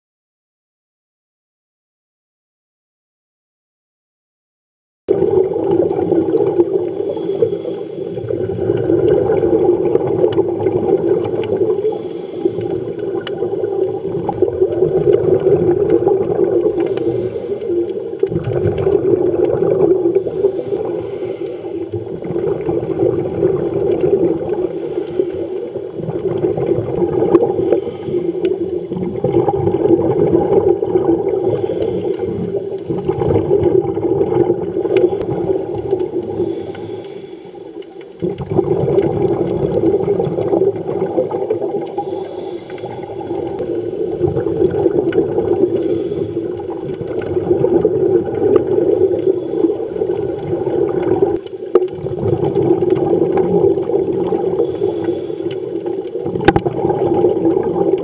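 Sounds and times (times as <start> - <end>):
muffled underwater water rush: 5.1 - 58.0.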